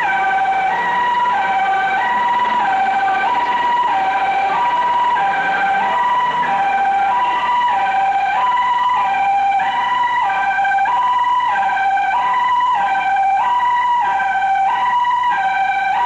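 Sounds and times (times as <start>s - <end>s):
two-tone siren: 0.0s - 16.0s.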